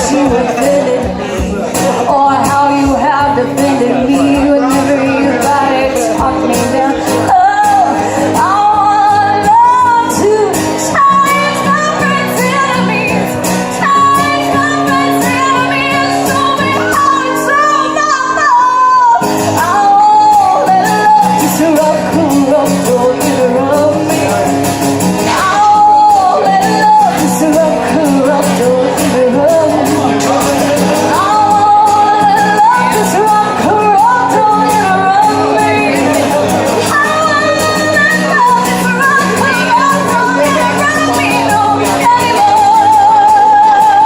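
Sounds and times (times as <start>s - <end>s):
live band accompaniment: 0.0s - 44.0s.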